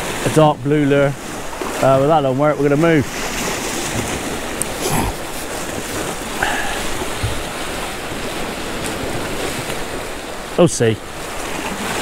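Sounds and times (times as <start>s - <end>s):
sea washing against rocks: 0.0s - 12.0s
wind: 0.0s - 12.0s.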